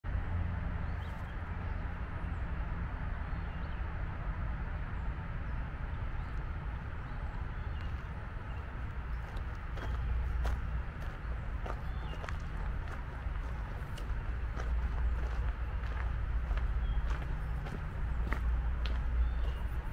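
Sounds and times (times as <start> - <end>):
low rumble with hiss: 0.1 - 19.9.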